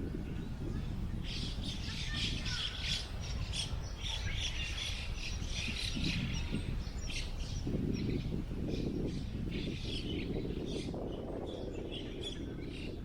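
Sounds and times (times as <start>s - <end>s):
low rush of wind: 0.0s - 13.0s
small birds chirping: 0.1s - 13.0s.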